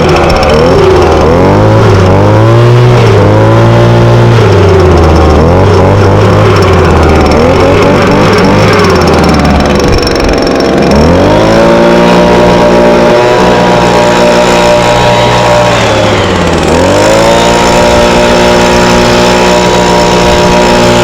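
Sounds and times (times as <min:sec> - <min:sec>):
leaf blower engine revving: 0:00.0 - 0:21.0.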